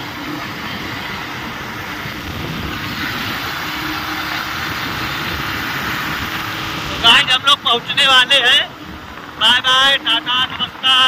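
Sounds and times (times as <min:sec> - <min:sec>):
motorcycle engine: 0:00.0 - 0:11.0
wind over microphone: 0:00.0 - 0:11.0.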